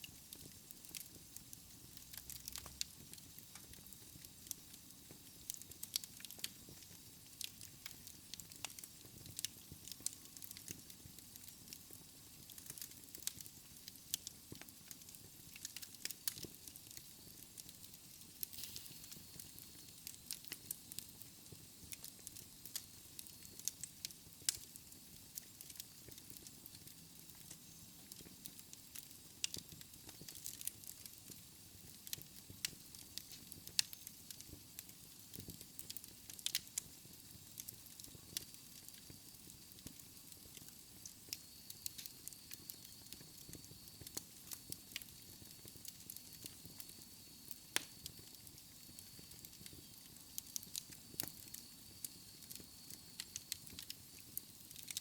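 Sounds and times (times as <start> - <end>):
fire crackling and popping: 0.0 - 55.0
soft hiss of flames: 0.0 - 55.0.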